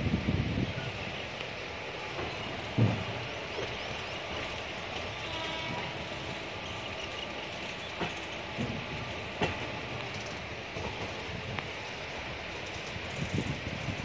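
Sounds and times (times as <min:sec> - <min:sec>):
train running rumble: 0:00.0 - 0:14.0
wheels clacking over rail joints: 0:01.0 - 0:14.0.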